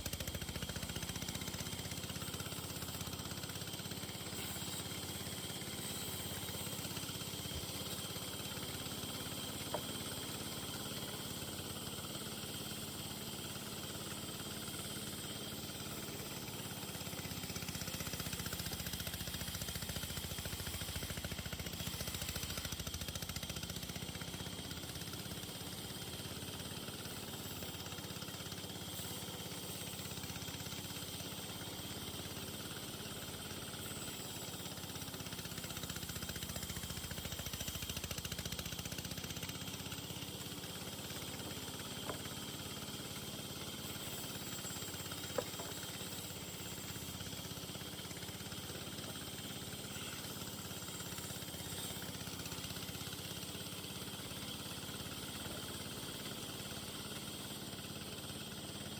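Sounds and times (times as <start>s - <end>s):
motor running steadily: 0.0s - 58.9s.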